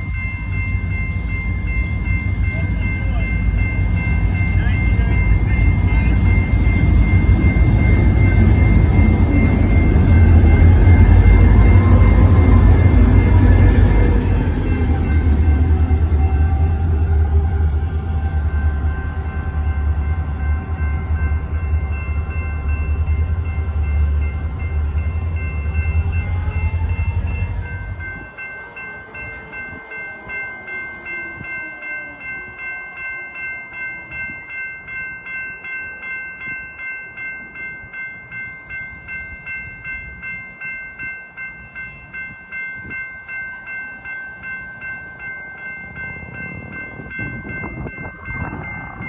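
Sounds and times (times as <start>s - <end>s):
crossing warning bells ringing: 0.0s - 49.0s
diesel locomotives rumbling past: 0.0s - 49.0s.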